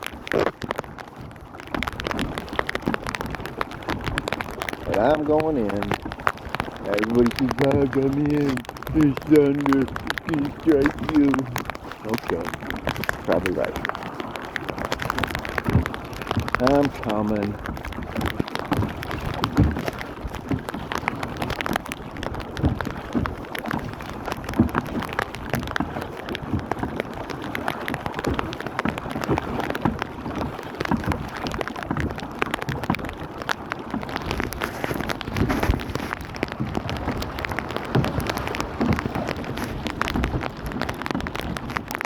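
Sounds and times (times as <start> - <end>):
rain falling on water: 0.0 - 42.0.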